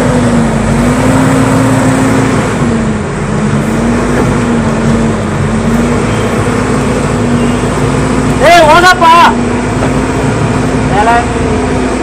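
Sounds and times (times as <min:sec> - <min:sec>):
vehicle engine low drone: 0:00.0 - 0:12.0.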